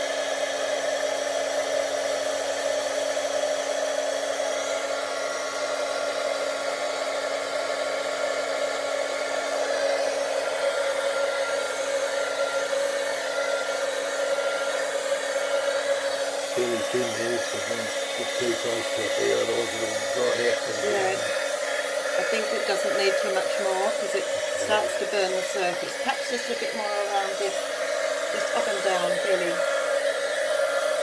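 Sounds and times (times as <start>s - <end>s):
heat gun blowing hot air: 0.0s - 31.0s.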